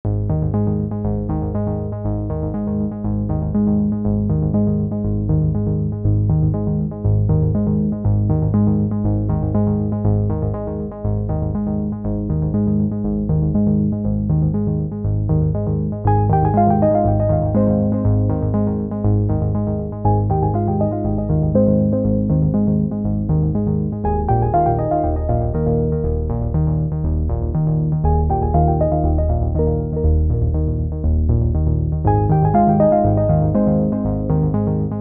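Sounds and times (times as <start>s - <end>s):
background music: 0.1s - 35.0s.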